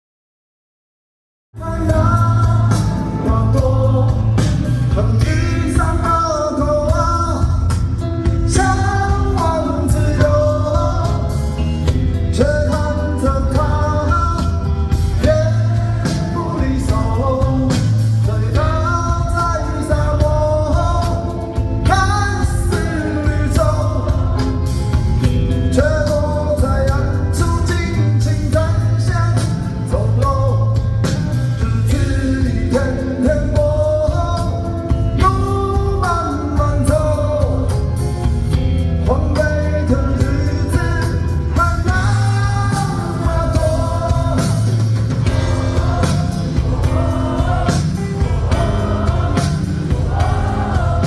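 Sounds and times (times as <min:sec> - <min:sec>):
lead vocal singing: 0:01.6 - 0:51.0
live rock band playing: 0:01.6 - 0:51.0.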